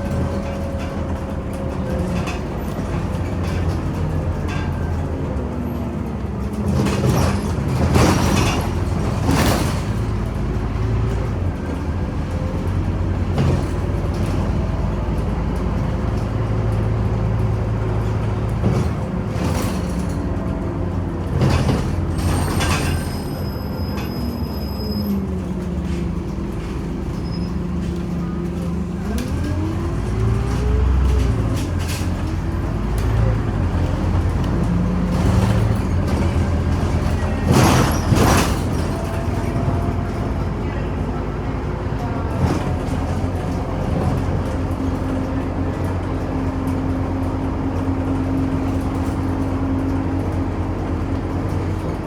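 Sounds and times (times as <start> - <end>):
bus engine drone: 0.0 - 52.0.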